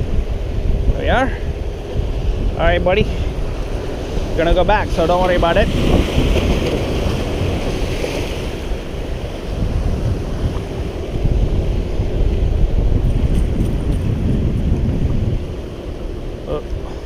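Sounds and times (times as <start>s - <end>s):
wind buffeting microphone: 0.0s - 17.0s
surf breaking on rocks: 0.8s - 17.0s.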